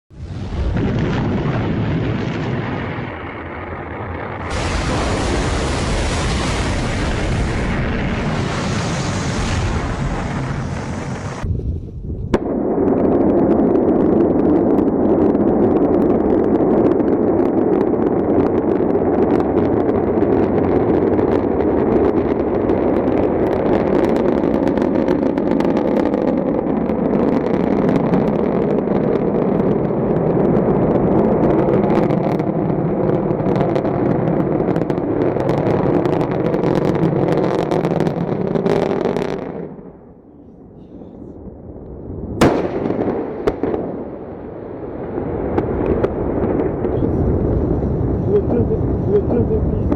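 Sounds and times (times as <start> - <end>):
rocket engine roaring with crackle: 0.1 - 49.9.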